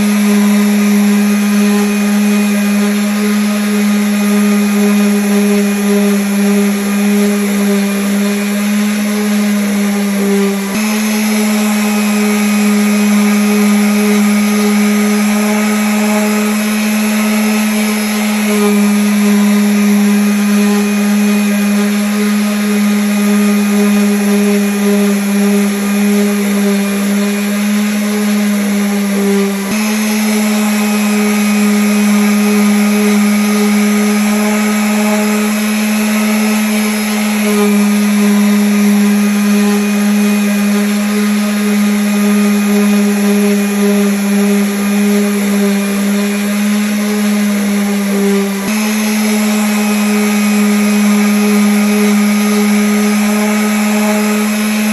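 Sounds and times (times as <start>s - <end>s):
electric sander on wood: 0.0s - 54.9s.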